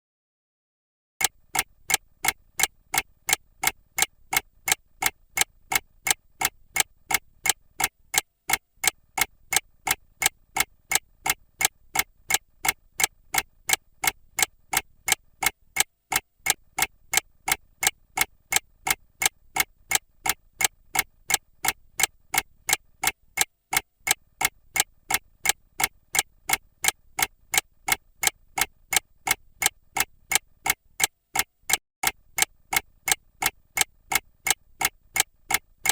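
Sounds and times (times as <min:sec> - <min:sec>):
mechanical clock ticking: 0:01.2 - 0:35.9.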